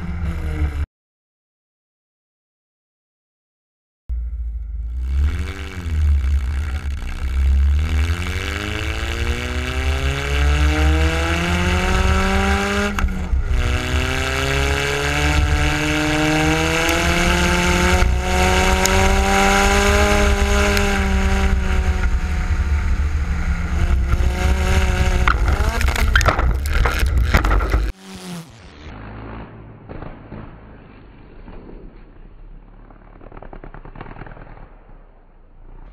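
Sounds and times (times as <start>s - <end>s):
road rumble: 0.0s - 0.8s, 4.1s - 35.9s
car engine accelerating: 4.1s - 35.9s.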